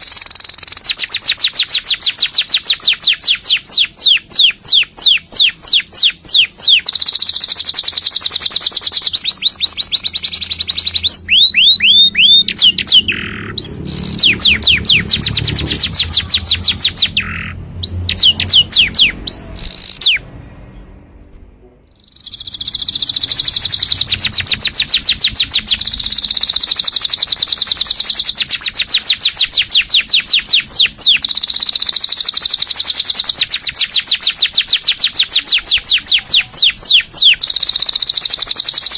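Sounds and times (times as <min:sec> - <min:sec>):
canary singing trills: 0:00.0 - 0:20.9, 0:21.9 - 0:38.9.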